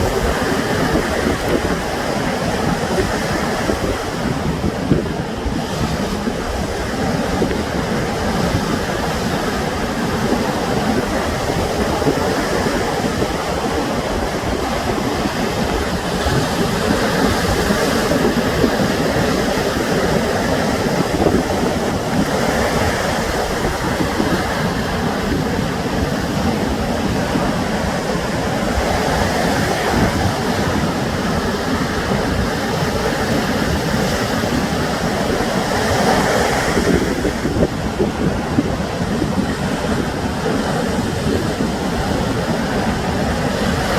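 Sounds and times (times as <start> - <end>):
sea waves washing on shore: 0.0 - 43.9.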